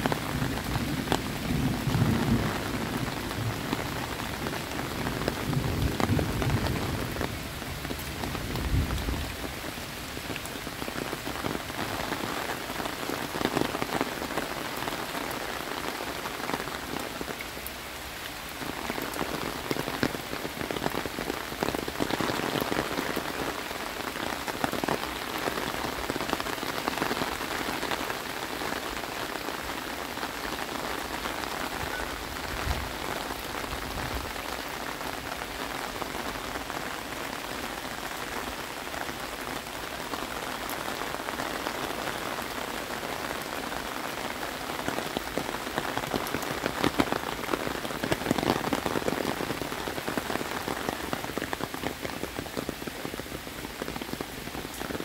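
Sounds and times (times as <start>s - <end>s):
rain on foliage and pavement: 0.0s - 55.0s.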